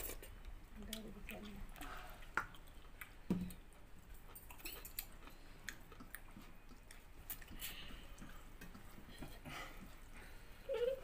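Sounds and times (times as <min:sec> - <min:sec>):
chewing: 0:00.0 - 0:10.2.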